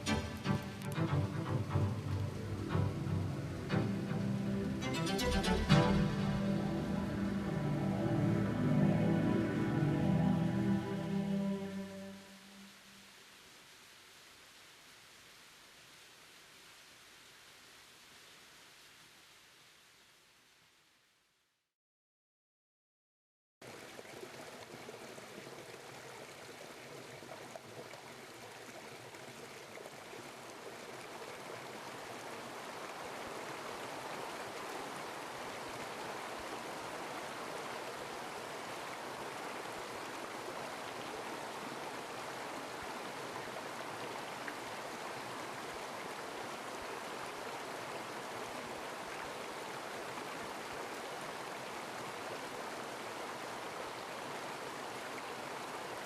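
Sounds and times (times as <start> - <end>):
mountain stream running: 0.0 - 20.5, 23.6 - 56.0.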